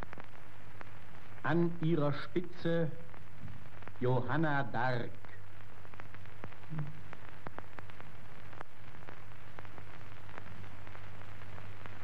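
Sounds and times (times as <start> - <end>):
clicks and crackles: 0.0 - 12.0
low hum and hiss: 0.0 - 12.0.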